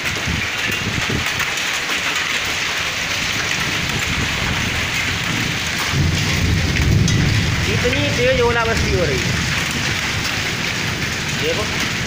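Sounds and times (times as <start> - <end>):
hailstones ticking: 0.0 - 12.0
heavy hail and rain on pavement: 0.0 - 12.0.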